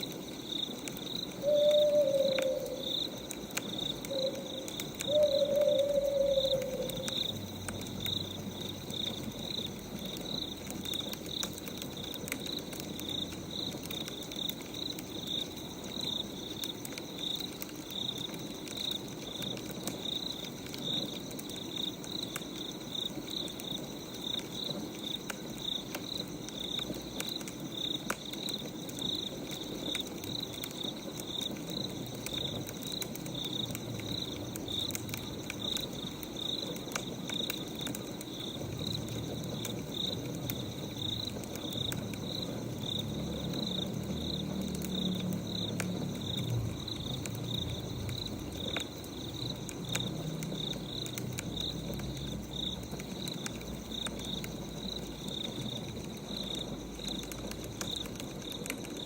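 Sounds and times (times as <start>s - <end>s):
cricket chirping: 0.0s - 59.0s
wood fire crackling: 0.0s - 59.0s.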